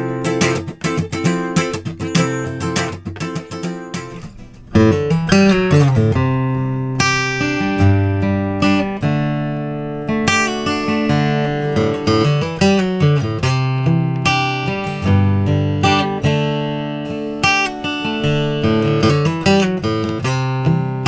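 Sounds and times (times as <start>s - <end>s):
acoustic guitar fingerstyle: 0.0s - 21.0s.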